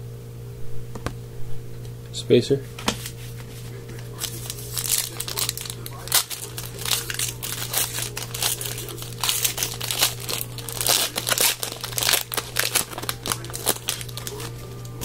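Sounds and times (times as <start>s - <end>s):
low electrical hum: 0.0s - 15.0s
foil wrapper crinkling and tearing: 3.0s - 15.0s.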